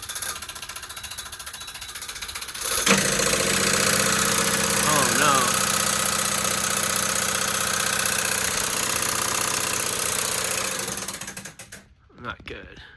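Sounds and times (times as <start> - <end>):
fast clinking rattle: 0.0 - 11.9
air conditioner running: 0.0 - 12.1.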